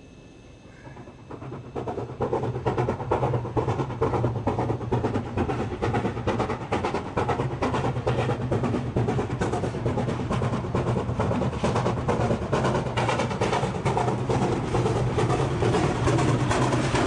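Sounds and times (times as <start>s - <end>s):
steam locomotive exhaust beating: 0.6s - 17.0s.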